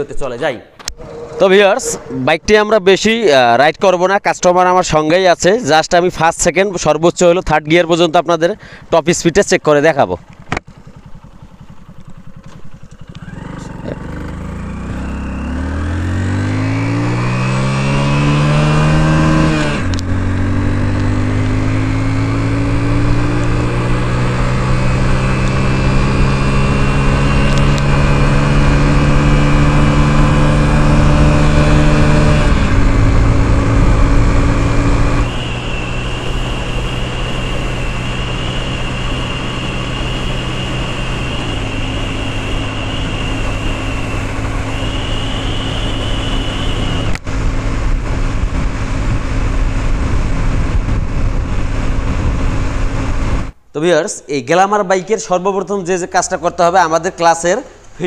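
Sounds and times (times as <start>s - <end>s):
motorcycle engine accelerating: 0.7s - 3.1s, 8.0s - 53.6s.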